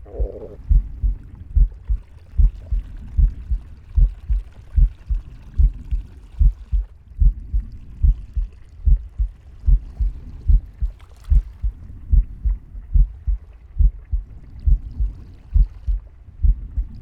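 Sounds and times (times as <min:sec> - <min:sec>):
pig heartbeat thumps: 0:00.0 - 0:17.0.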